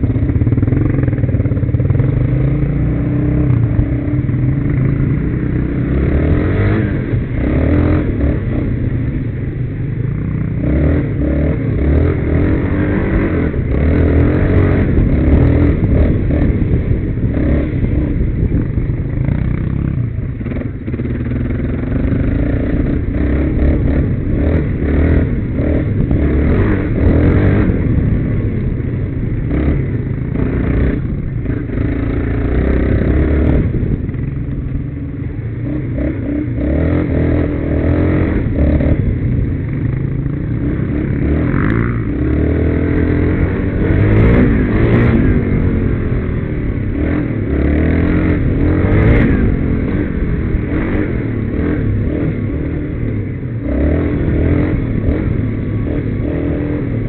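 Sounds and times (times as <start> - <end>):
quad bike engine: 0.0 - 57.0.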